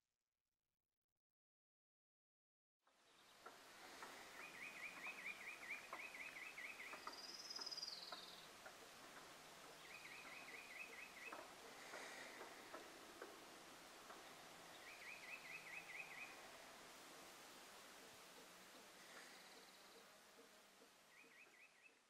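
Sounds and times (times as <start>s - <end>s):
outdoor background hiss: 2.9s - 22.0s.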